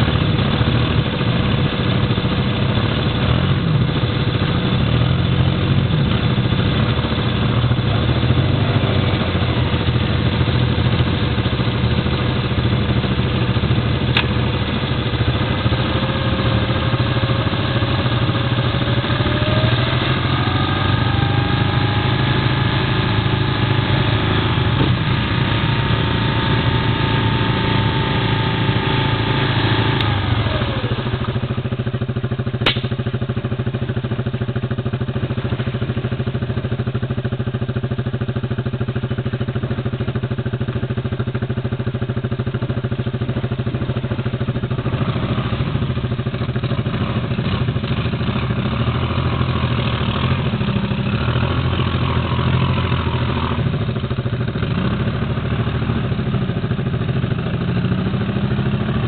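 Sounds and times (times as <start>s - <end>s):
atv engines running at low revs: 0.0s - 59.0s.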